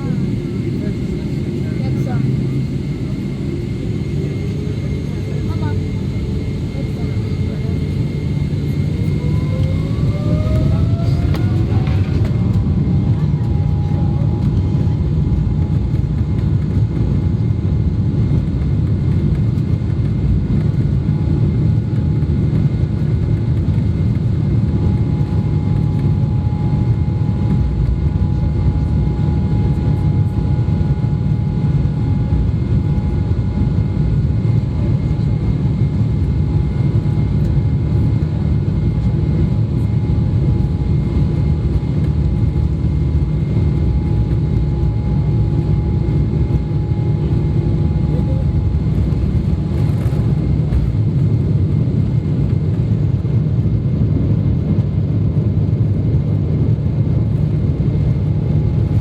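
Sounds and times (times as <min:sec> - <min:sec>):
jet engines heard from cabin: 0:00.0 - 0:59.0.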